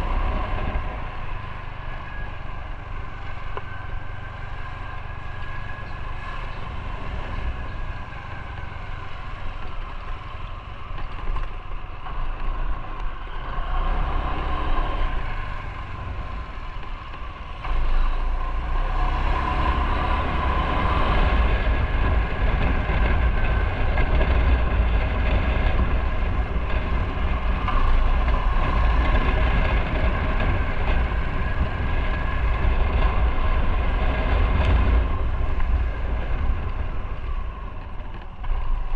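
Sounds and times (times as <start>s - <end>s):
motorcycle engine running: 0.0s - 38.9s
wind rumbling on microphone: 0.0s - 38.9s.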